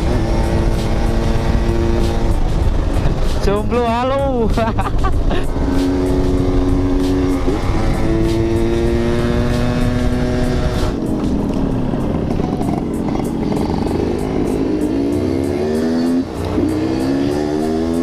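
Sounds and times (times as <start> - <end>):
two-stroke motorcycle engine revving: 0.0 - 3.3, 4.6 - 18.0.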